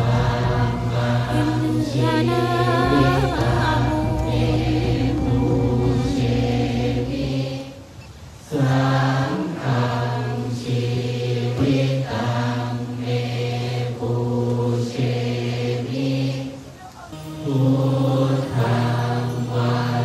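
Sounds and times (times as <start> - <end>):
group of low voices chanting: 0.0 - 20.0.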